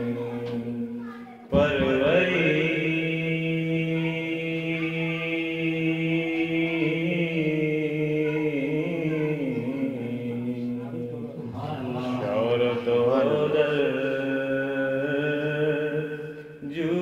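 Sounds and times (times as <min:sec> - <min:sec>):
devotional chanting: 0:00.0 - 0:17.0.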